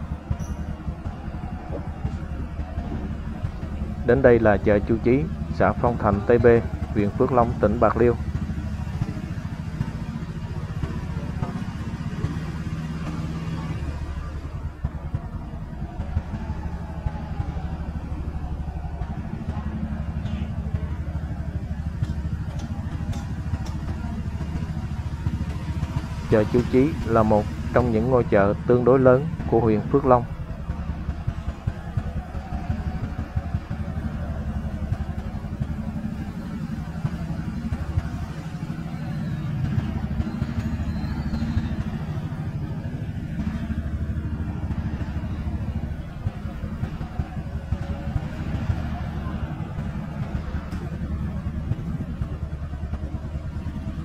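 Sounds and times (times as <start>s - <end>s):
motorcycle engine puttering: 0.0s - 54.0s.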